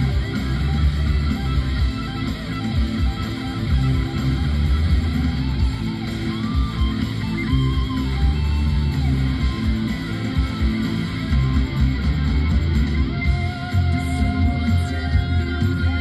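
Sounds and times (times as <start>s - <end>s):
guitar-led rock music: 0.0s - 16.0s.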